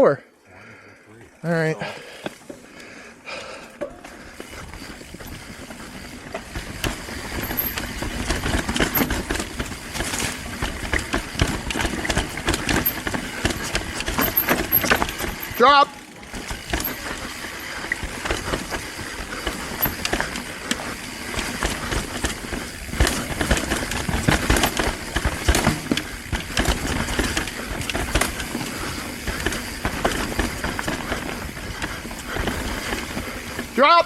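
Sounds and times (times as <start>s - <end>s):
bike chain and frame rattling: 1.3s - 34.0s
bike tyres rolling over rock: 3.8s - 34.0s.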